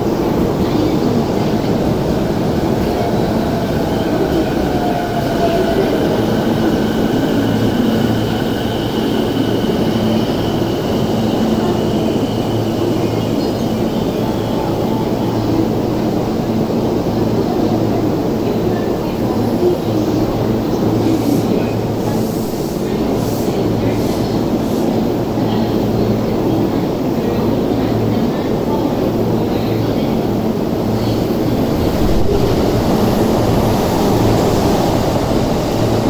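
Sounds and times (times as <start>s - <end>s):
electric train rumbling: 0.0s - 36.0s.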